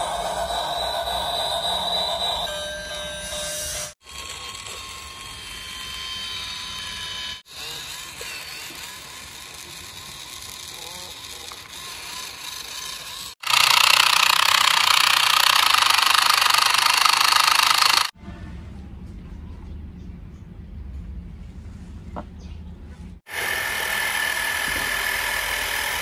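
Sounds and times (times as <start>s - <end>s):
toy motors whirring and buzzing: 0.0s - 18.2s, 23.3s - 26.0s.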